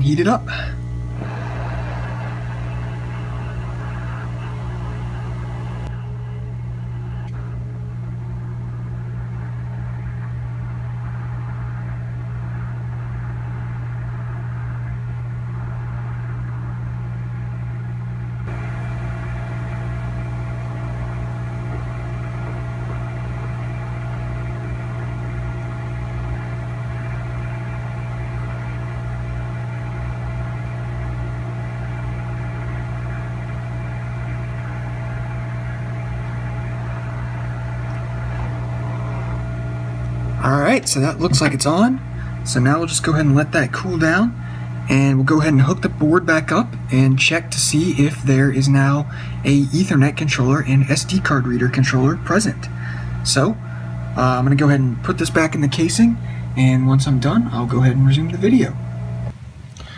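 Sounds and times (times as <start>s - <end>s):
high steady whine: 0.0s - 59.9s
hot-air station hum: 0.0s - 59.9s.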